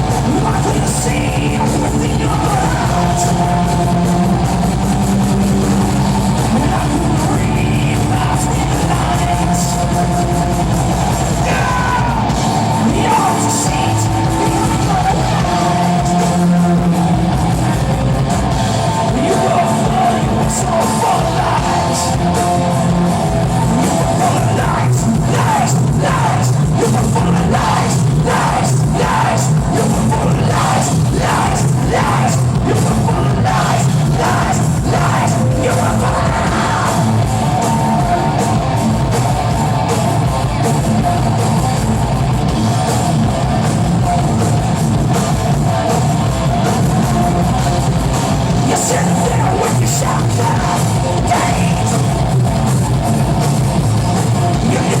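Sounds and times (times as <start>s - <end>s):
singer yelling: 0.0s - 42.5s, 43.3s - 53.4s, 54.2s - 55.0s
live rock band: 0.0s - 55.0s.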